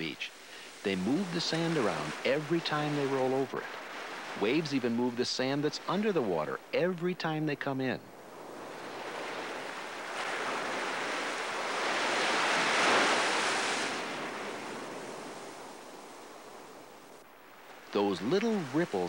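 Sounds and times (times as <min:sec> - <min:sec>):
ocean wave washing on beach: 0:00.0 - 0:07.1, 0:08.1 - 0:19.0.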